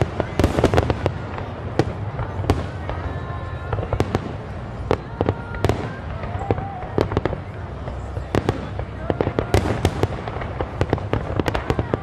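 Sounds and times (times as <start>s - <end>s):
fireworks bangs: 0.0s - 12.0s
rumble of distant bursts: 0.0s - 12.0s.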